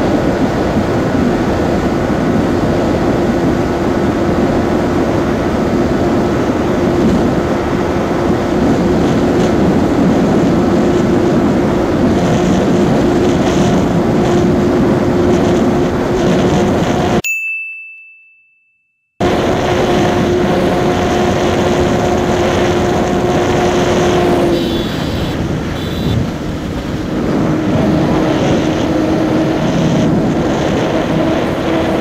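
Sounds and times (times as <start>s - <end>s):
motorcycle engine at high revs: 0.0s - 17.2s, 19.2s - 32.0s
wind rush on microphone: 0.0s - 17.2s, 19.2s - 32.0s.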